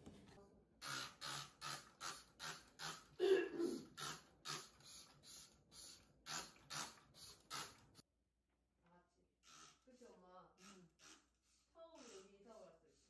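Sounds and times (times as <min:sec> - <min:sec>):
spray bottle spritzing: 0:00.8 - 0:08.0, 0:09.4 - 0:13.0.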